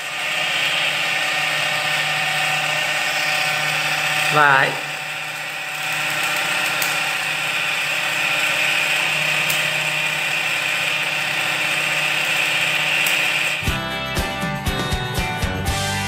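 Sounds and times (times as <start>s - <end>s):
motor and belt whining: 0.0s - 13.7s.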